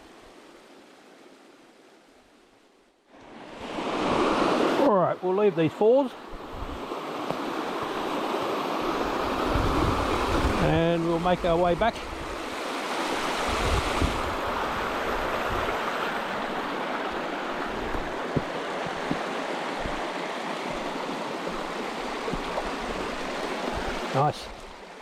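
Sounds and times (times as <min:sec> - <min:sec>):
waterfall rushing: 0:03.4 - 0:25.0.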